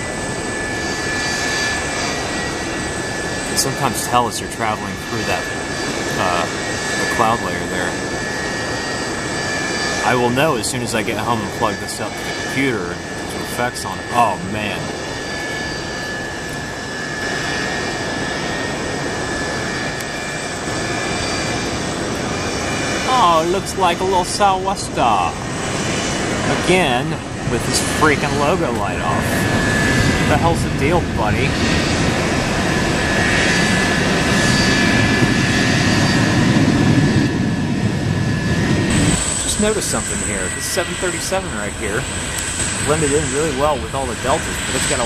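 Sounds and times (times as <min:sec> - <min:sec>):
high steady whine: 0:00.0 - 0:45.0
jet airliner engines passing: 0:00.0 - 0:45.0.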